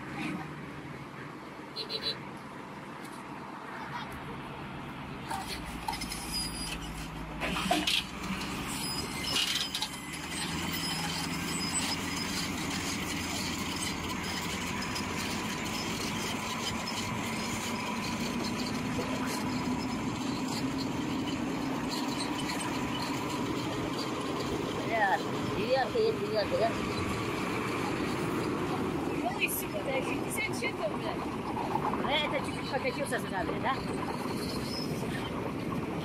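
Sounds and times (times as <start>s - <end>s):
heavy diesel engines running: 1.4s - 36.0s.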